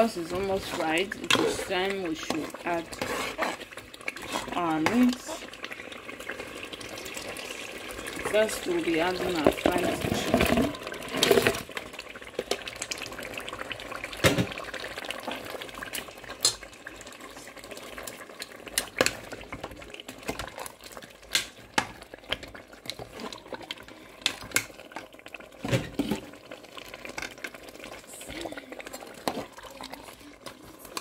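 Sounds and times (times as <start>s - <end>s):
stew bubbling in a pot: 0.0s - 31.0s.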